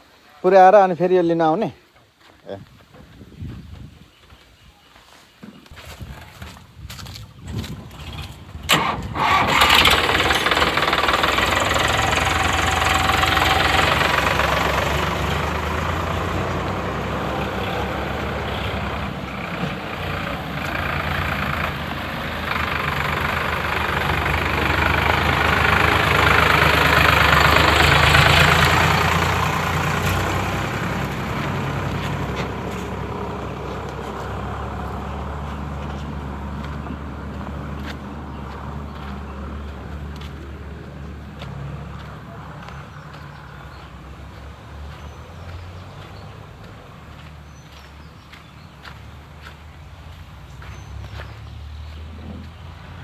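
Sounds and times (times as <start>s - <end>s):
tractor diesel engine running: 6.1s - 53.0s.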